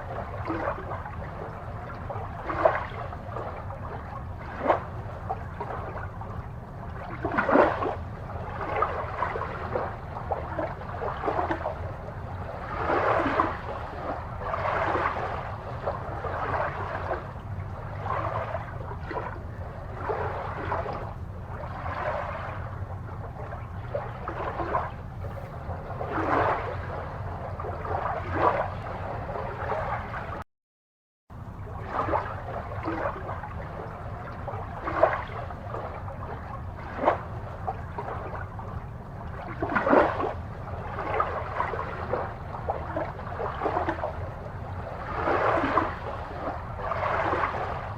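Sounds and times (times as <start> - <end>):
steady low hum: 0.0 - 30.4, 31.3 - 47.9
water gurgling and bubbling: 0.0 - 30.4, 31.4 - 47.9.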